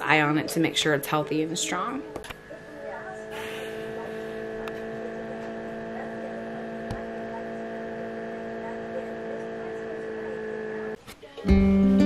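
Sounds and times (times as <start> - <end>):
incubator humming: 0.0 - 11.0.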